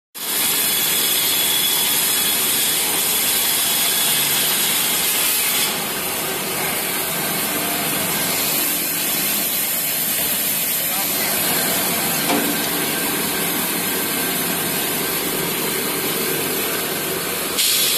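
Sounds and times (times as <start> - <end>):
band saw cutting: 0.2 - 17.9.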